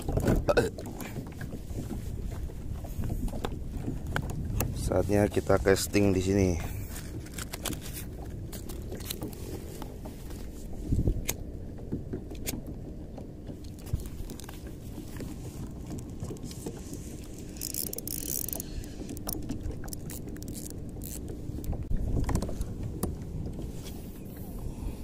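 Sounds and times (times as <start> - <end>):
kayak gear clicking and knocking: 0.0 - 2.1, 2.8 - 4.8, 6.8 - 23.7.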